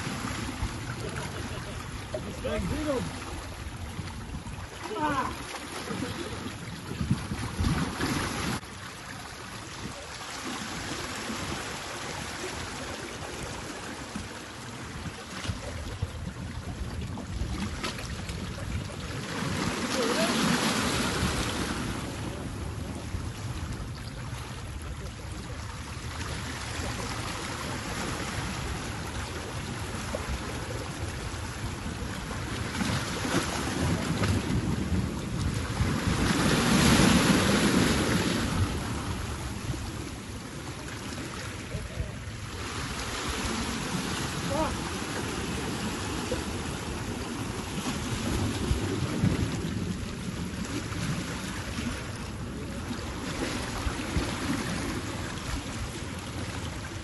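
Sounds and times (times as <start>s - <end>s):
surf washing over rocks: 0.0s - 57.0s.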